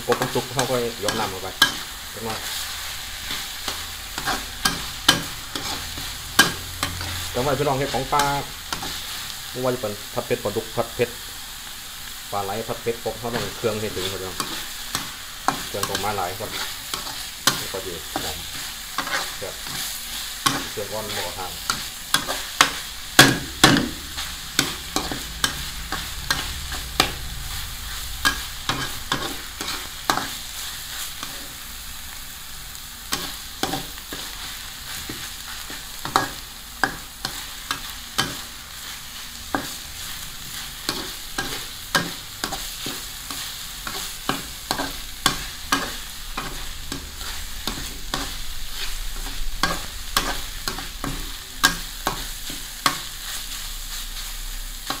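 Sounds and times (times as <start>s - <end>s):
food sizzling: 0.0s - 55.0s.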